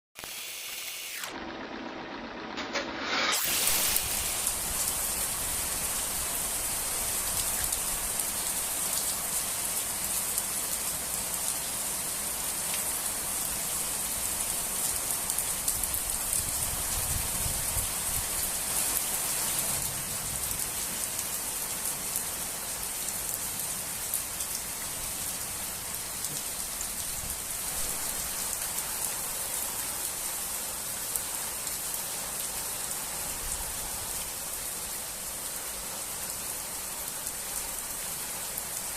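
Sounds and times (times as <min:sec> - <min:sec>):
gentle rain pattering: 0:03.6 - 0:38.9.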